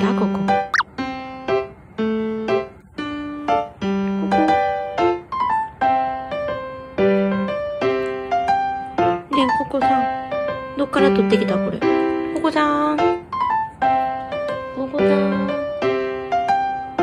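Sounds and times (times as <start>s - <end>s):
light keyboard melody: 0.0s - 17.0s.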